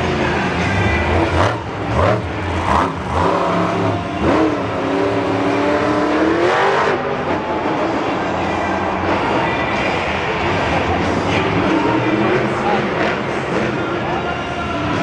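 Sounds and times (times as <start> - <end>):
truck engine revving hard: 0.4 - 14.0.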